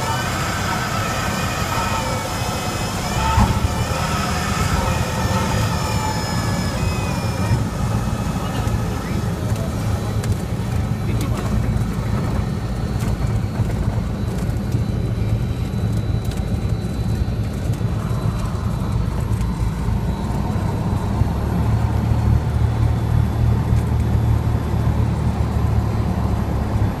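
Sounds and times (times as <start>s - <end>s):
light plane engine droning: 0.0s - 27.0s.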